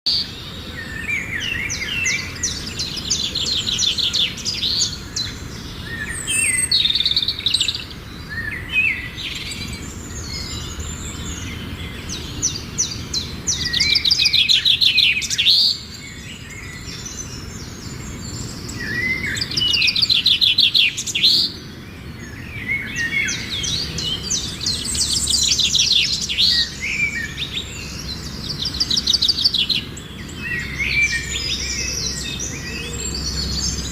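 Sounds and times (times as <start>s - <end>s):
songbird trilling and chirping: 0.1s - 33.9s.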